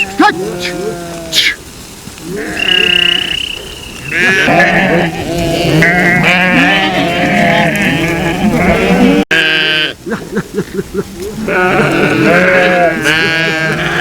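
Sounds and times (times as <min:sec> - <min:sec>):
sheep bleating: 0:00.0 - 0:01.5, 0:02.2 - 0:10.0, 0:11.2 - 0:14.0.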